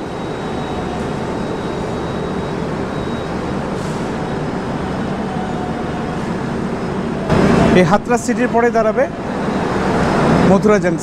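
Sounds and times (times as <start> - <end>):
passenger train standing noise: 0.0 - 11.0.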